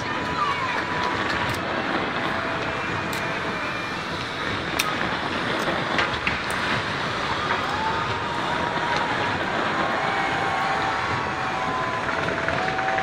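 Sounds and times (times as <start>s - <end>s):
firework whistles: 0.0s - 13.0s
fireworks bursting: 0.0s - 13.0s
sharp firework cracks: 0.0s - 13.0s.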